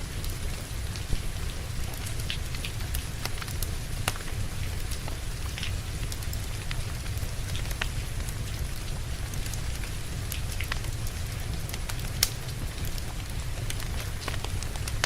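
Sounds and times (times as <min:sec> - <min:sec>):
steady rain: 0:00.0 - 0:15.0
wood fire crackling and popping: 0:00.1 - 0:15.0.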